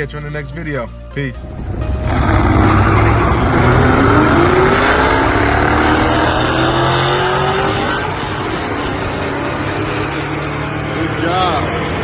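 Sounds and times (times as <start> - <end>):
car engine accelerating: 1.4 - 12.0.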